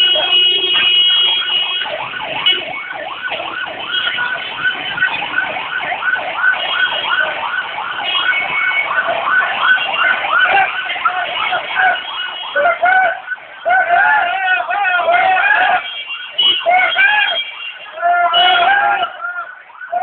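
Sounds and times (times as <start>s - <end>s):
car alarm whooping: 0.0s - 20.0s.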